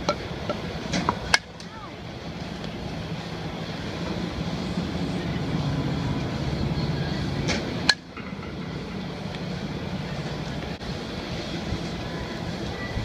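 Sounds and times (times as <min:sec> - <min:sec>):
pitching machine rumble: 0:00.0 - 0:13.0.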